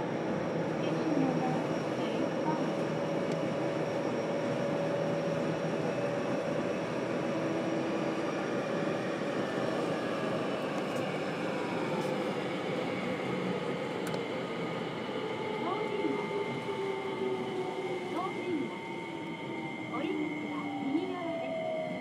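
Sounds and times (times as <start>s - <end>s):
train wheel and rail noise: 0.0s - 22.0s.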